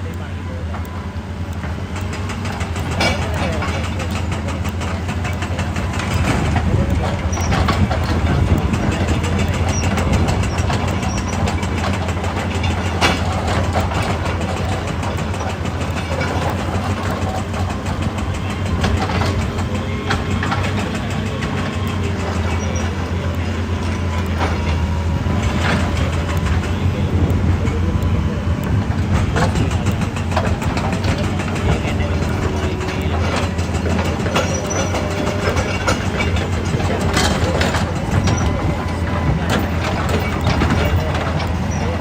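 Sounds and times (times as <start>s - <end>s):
excavator diesel engine running: 0.0s - 42.0s
rapid tapping: 0.8s - 42.0s.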